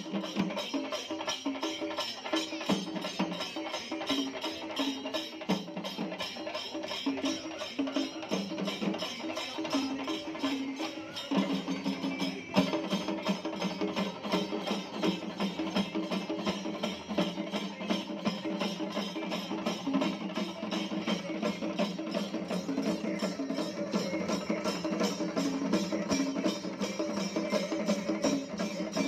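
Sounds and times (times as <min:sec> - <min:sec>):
fast percussion strokes: 0:00.0 - 0:29.0.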